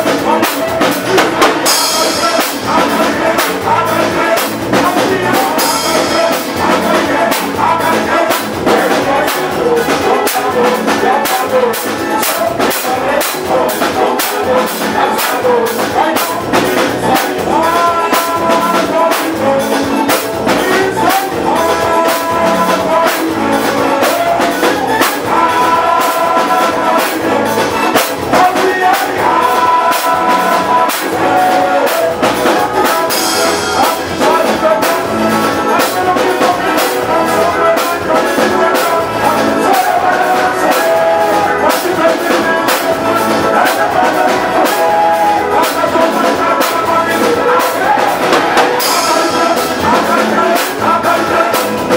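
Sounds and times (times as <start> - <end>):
brass horns: 0.0 - 51.9
fast drum beat: 0.0 - 51.9
live band playing: 0.0 - 51.9.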